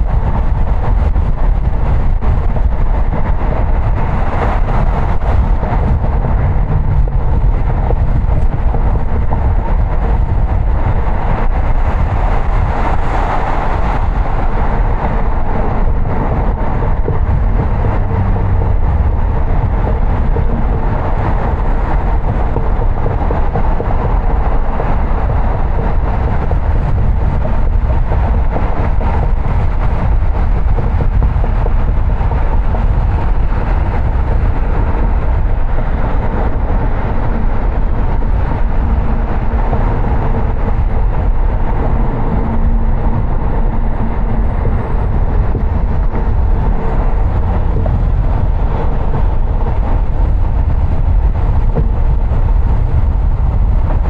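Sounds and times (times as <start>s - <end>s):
car road noise: 0.0s - 54.0s.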